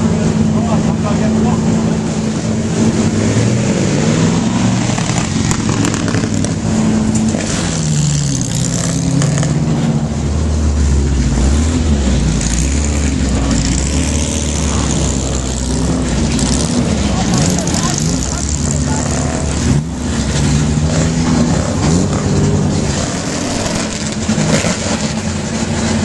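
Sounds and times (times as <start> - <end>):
deep steady engine rumble: 0.0 - 26.0
racing car engines revving: 0.0 - 26.0.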